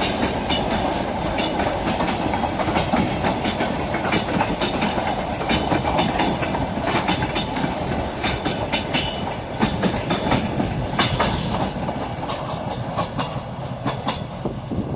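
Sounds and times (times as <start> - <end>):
train rumble: 0.0 - 14.9
train wheels clattering over rail joints: 0.0 - 14.9.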